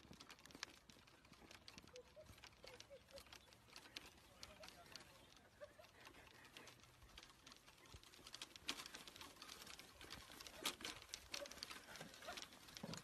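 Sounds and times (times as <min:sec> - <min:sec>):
running footsteps on grass: 0:00.0 - 0:13.0.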